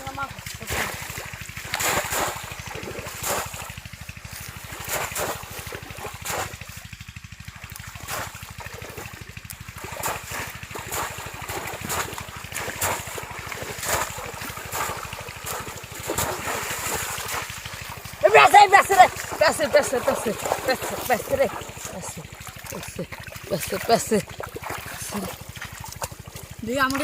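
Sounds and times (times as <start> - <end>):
shallow river water splashing: 0.0 - 27.0.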